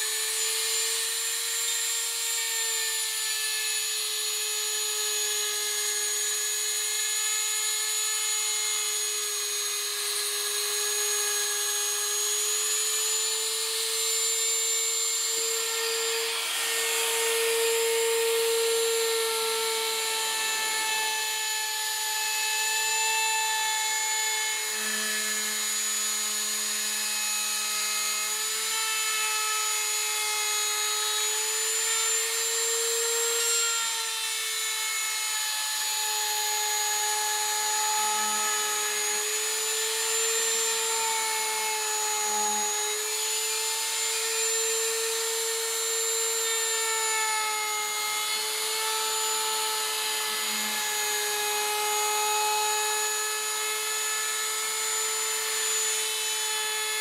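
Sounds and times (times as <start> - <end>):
electric power tool motor whining: 0.0 - 57.0.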